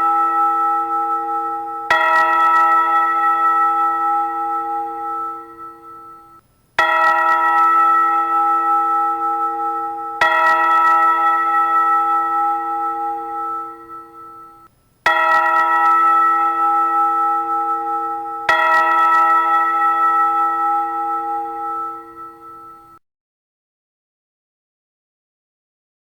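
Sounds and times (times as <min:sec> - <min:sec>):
church bell ringing: 0:00.0 - 0:23.0.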